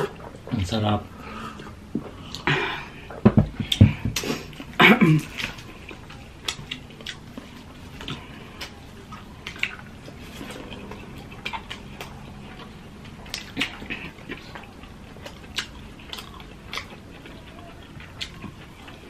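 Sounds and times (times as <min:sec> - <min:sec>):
wet chewing: 0:00.0 - 0:19.0
lip smacks and mouth clicks: 0:03.7 - 0:19.0.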